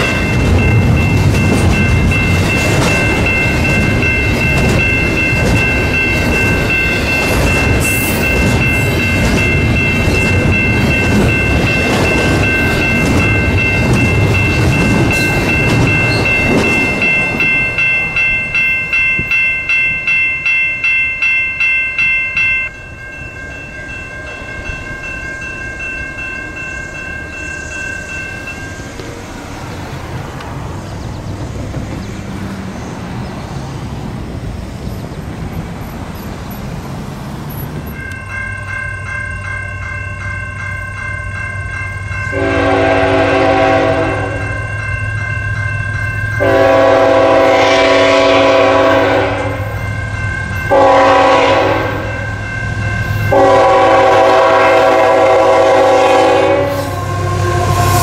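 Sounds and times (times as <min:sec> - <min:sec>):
high steady ringing: 0:00.0 - 0:29.0, 0:37.9 - 0:58.0
freight train wheels rumbling: 0:00.0 - 0:58.0.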